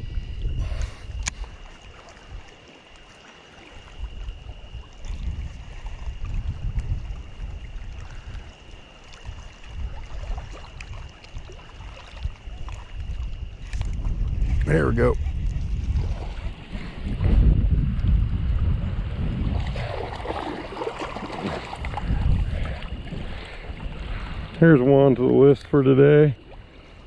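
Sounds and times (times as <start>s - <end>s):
wind buffeting microphone: 0.0s - 2.5s, 3.8s - 27.0s.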